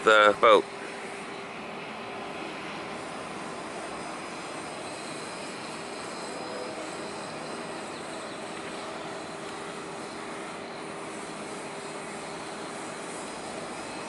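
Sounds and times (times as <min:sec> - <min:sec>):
faint steady hum tones: 0:00.0 - 0:14.0
outdoor rushing drone: 0:00.0 - 0:14.0.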